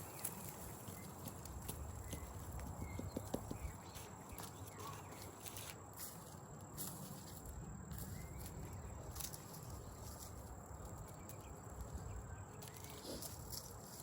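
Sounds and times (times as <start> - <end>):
dead plants rustling and crackling: 0.0 - 14.0.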